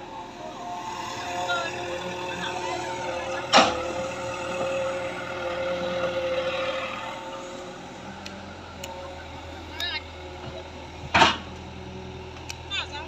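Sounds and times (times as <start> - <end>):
digger engine running: 0.0 - 13.0.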